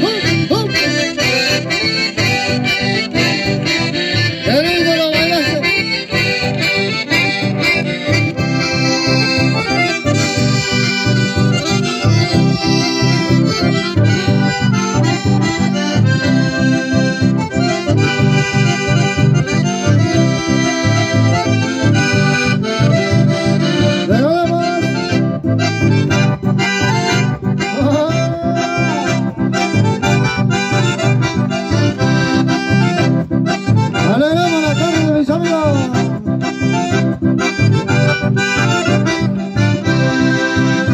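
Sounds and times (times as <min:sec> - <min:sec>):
acoustic guitar strumming: 0:00.0 - 0:40.9
button accordions playing: 0:00.0 - 0:40.9.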